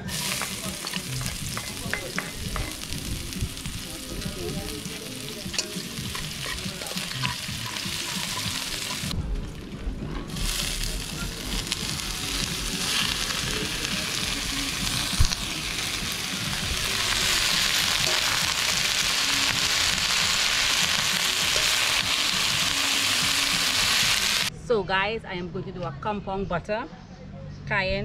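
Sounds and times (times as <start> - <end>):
vegetables sizzling in oil: 0.0 - 9.2, 10.3 - 24.5.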